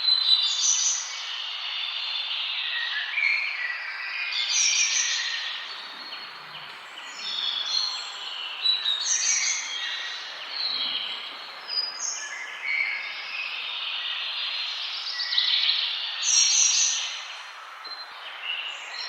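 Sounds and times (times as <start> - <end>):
birds chirping and singing: 0.1 - 17.4
steady background hiss: 0.1 - 19.0.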